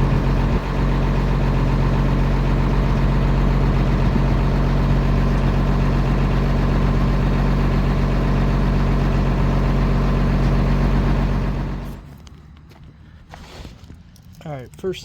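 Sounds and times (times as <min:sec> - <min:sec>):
diesel truck engine running: 0:00.0 - 0:13.3.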